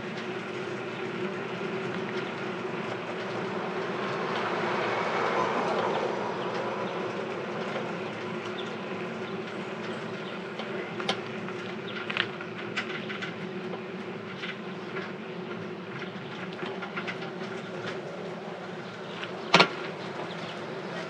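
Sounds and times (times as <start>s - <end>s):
bicycle rolling with whirr: 0.0s - 21.0s
bicycle rattling and clicking: 0.1s - 21.0s.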